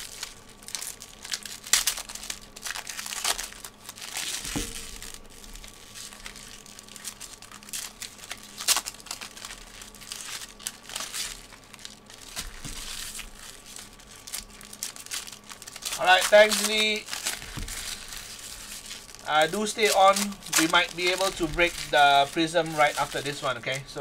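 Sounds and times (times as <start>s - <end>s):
foil wrappers crinkling and tearing: 0.0s - 24.0s.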